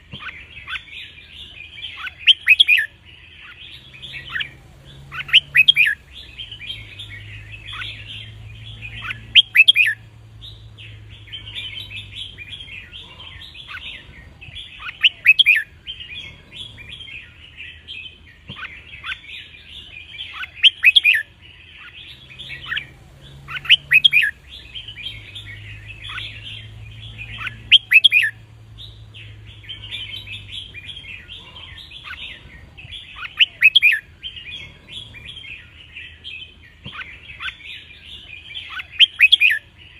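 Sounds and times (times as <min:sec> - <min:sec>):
birds chattering and twittering: 0:00.0 - 0:39.9
birds whistling song phrases: 0:00.0 - 0:39.9.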